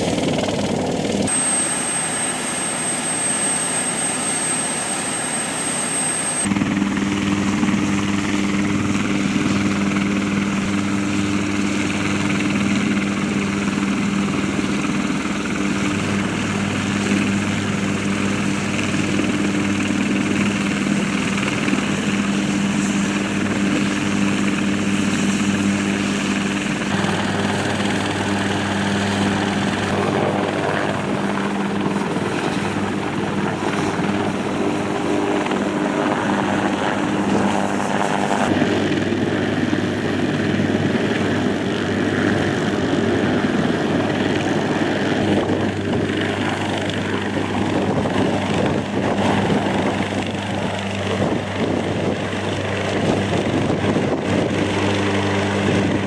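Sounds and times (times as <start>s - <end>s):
helicopter turbine and rotor noise: 0.0s - 56.0s.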